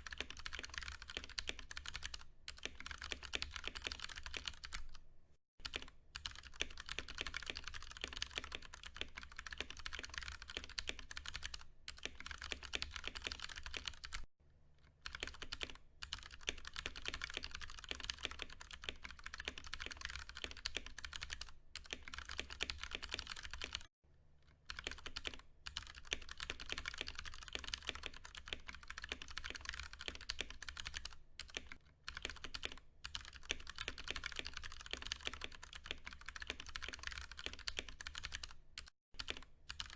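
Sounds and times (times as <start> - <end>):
mechanical keyboard typing: 0.0 - 5.0, 5.6 - 14.3, 15.0 - 23.9, 24.7 - 39.9.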